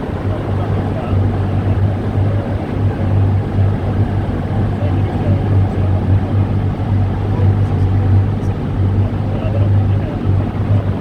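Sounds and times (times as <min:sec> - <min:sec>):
engine droning steadily: 0:00.0 - 0:11.0.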